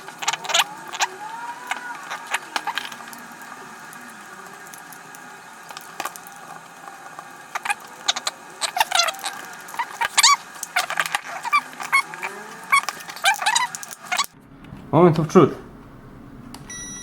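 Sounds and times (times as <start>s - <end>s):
plastic parts clicking and rattling: 0.0s - 14.4s.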